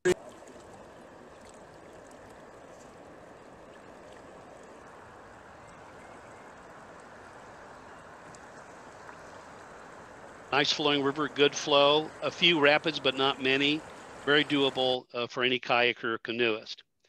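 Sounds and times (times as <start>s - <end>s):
faint small splashes: 0.0s - 14.5s
river rushing: 0.1s - 14.8s.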